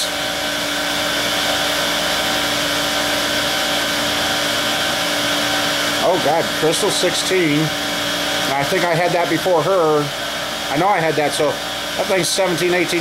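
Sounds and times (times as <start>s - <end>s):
motor-driven machine whirring: 0.0s - 13.0s.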